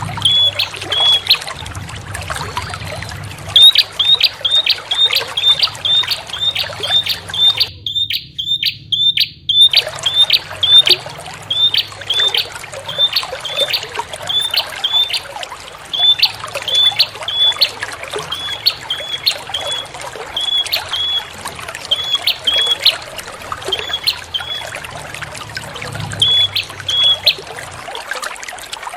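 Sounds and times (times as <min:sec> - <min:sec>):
trickle of running water: 0:00.0 - 0:28.9
bird calling in sharp high notes: 0:00.2 - 0:01.5, 0:03.6 - 0:24.8, 0:26.2 - 0:27.4.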